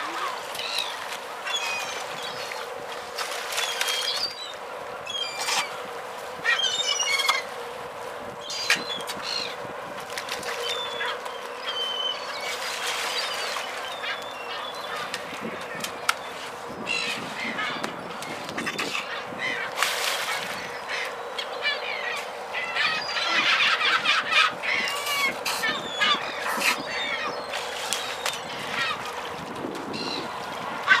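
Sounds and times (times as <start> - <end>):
gulls calling: 0.0 - 31.0.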